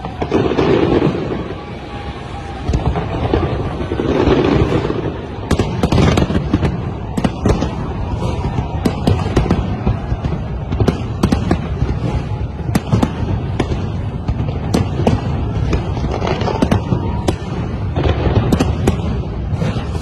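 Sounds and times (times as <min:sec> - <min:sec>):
fireworks exploding: 0:00.0 - 0:20.0
sharp firework bangs: 0:00.0 - 0:20.0.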